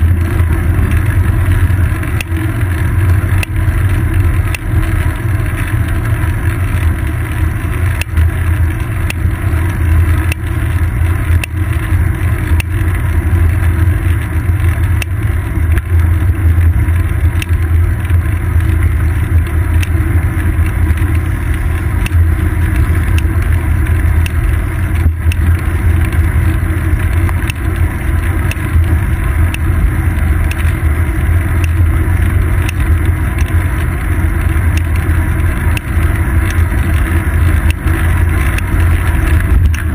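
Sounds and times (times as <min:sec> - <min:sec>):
road vibration rumble: 0:00.0 - 0:39.9
small clicks and knocks from bumps: 0:00.0 - 0:39.9
wind: 0:00.0 - 0:39.9.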